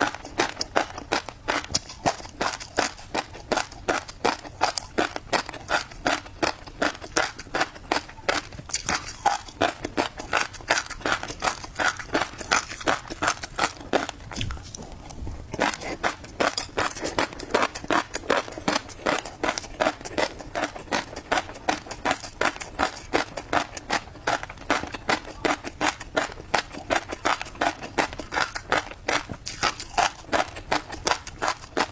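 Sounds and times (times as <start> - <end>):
chewing crunchy fish eggs: 0.0 - 31.9.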